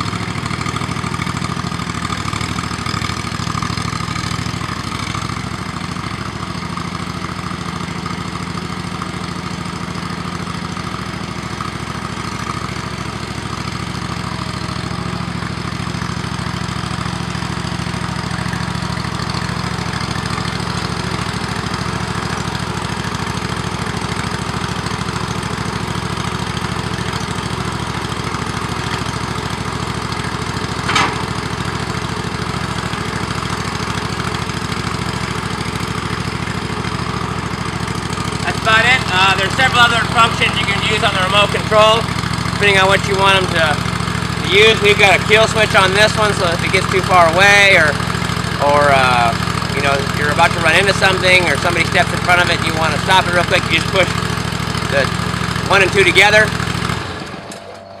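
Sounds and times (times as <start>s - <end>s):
tractor engine running steadily: 0.0s - 58.0s.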